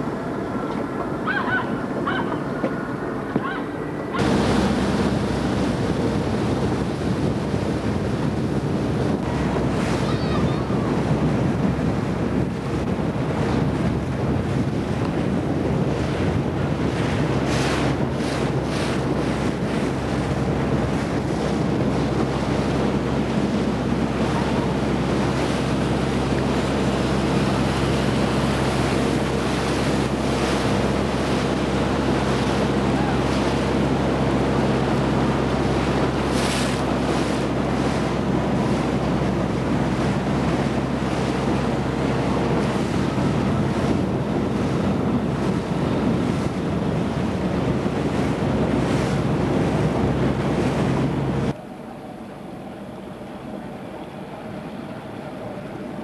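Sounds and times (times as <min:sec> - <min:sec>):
water splashes: 0:00.0 - 0:51.6
wind buffeting microphone: 0:00.0 - 0:51.6
motorboat engine humming: 0:00.0 - 0:56.0
water rushing past hull: 0:00.0 - 0:56.0.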